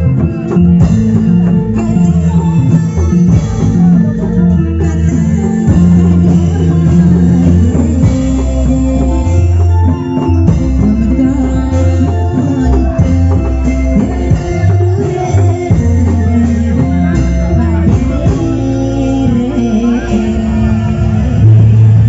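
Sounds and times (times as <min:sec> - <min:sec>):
drum beats: 0:00.0 - 0:22.0
person singing: 0:00.0 - 0:22.0
sustained bass line: 0:00.0 - 0:22.0.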